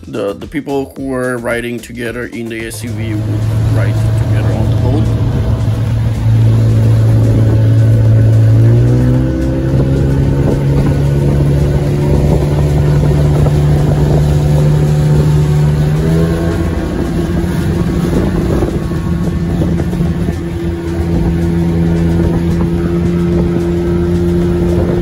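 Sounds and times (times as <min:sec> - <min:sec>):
speedboat motor running: 0:00.0 - 0:25.0
water rushing past hull: 0:02.6 - 0:25.0.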